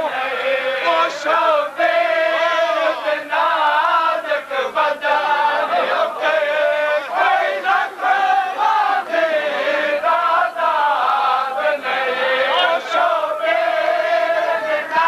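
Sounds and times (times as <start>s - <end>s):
crowd singing along: 0.0s - 15.0s
men chanting a lament: 0.0s - 15.0s.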